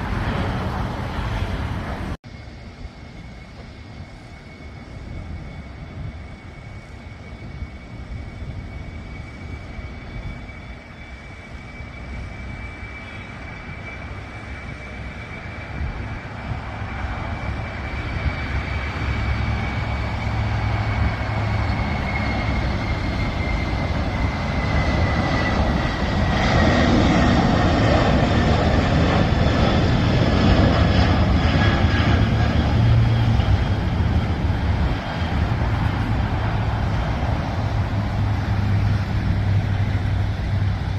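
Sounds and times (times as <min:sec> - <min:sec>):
jet engines rumbling and whining: 0:00.0 - 0:40.9.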